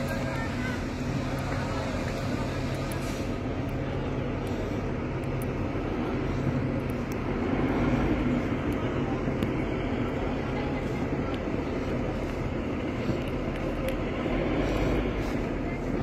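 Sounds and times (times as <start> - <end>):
train diesel engine droning: 0.0 - 16.0.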